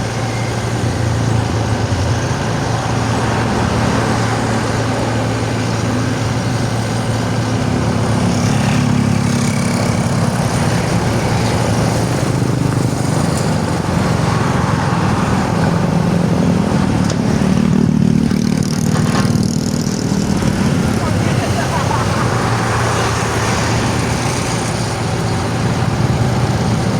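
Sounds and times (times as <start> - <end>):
excavator diesel engine: 0.0 - 26.9.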